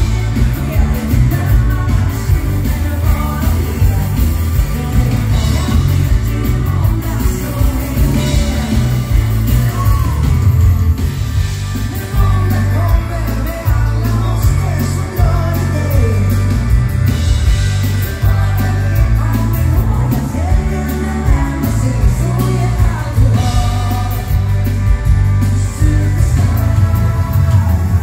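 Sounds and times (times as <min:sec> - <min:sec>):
person singing: 0:00.0 - 0:16.8, 0:17.7 - 0:28.0
drums with cymbal beats: 0:00.0 - 0:28.0
heavy bass line: 0:00.0 - 0:28.0
live rock and roll band: 0:00.0 - 0:28.0.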